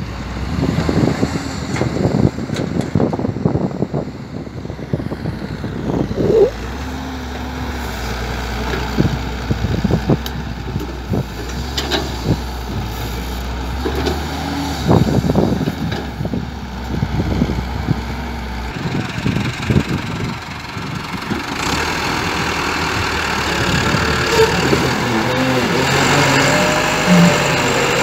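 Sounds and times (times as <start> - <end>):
diesel engines droning: 0.0 - 28.0.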